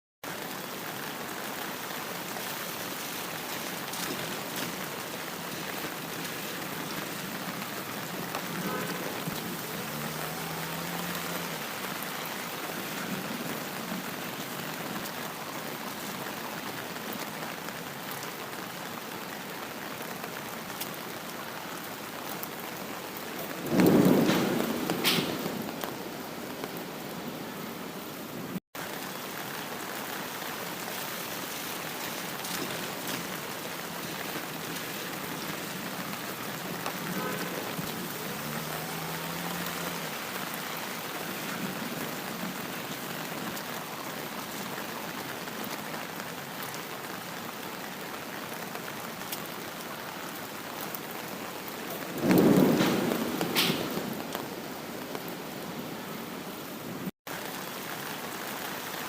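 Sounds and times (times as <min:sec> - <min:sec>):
rain falling: 0:00.2 - 0:59.0.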